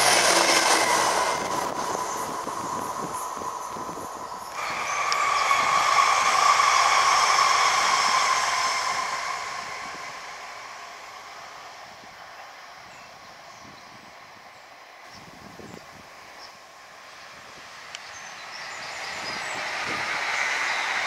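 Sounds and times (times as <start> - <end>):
diesel train passing: 0.0 - 21.0
train high whine: 0.0 - 21.0.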